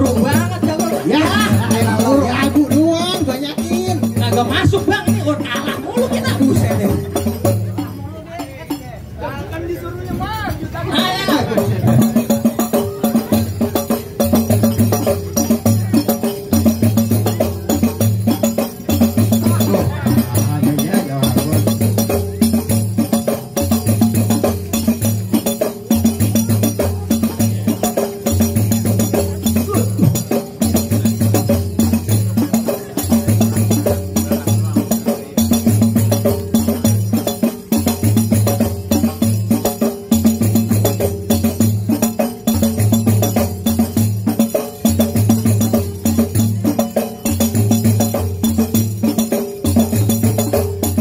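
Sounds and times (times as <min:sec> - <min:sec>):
frame drums beating rhythm: 0:00.0 - 0:51.0.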